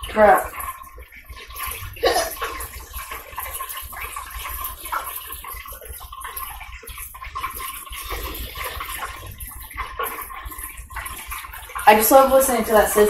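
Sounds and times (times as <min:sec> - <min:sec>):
chicken sizzling in deep fryer: 0:00.0 - 0:13.0.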